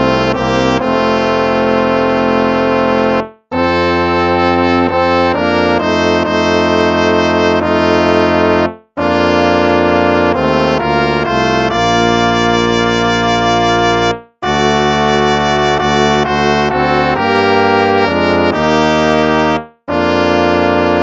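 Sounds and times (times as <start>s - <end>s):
instrumental hymn brass chords: 0.0s - 21.0s.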